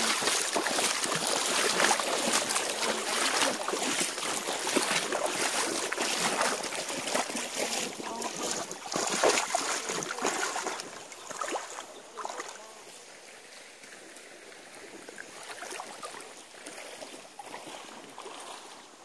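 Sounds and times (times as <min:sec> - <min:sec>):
feet splashing in stream: 0:00.0 - 0:19.0
flowing water rushing: 0:00.0 - 0:19.0.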